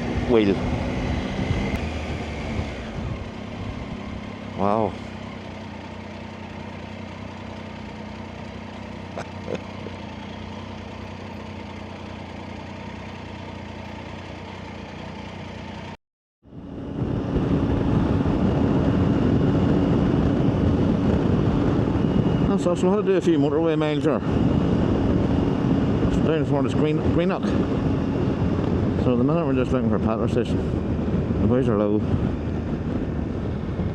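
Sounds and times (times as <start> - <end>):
motorcycle engine drone: 0.0 - 33.9
wind and road noise: 0.0 - 33.9.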